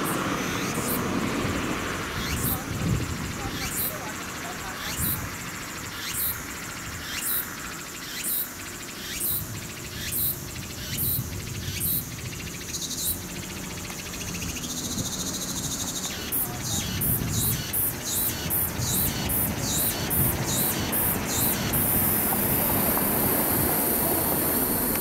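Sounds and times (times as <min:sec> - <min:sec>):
insects calling high notes: 0:00.0 - 0:25.0
steady high buzz: 0:00.0 - 0:25.0.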